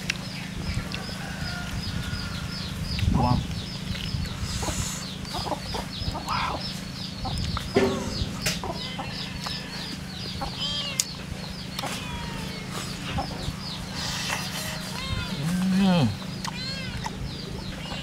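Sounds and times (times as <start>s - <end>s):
chickens clucking: 0.7s - 18.0s.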